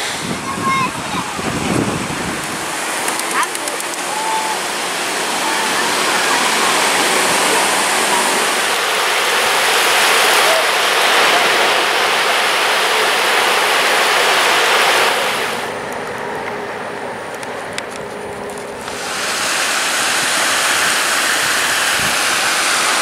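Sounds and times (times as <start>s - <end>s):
distant crowd voices: 0.0s - 23.0s
surf washing on shore: 0.0s - 23.0s.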